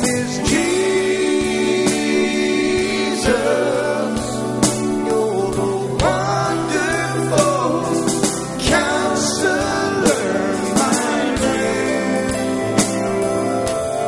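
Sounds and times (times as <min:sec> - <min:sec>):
band playing: 0:00.0 - 0:14.0
person singing: 0:00.0 - 0:14.0.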